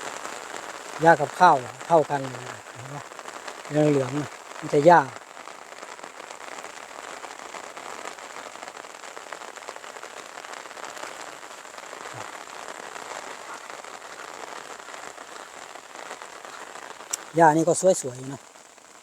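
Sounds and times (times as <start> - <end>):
light rain falling: 0.0 - 19.0.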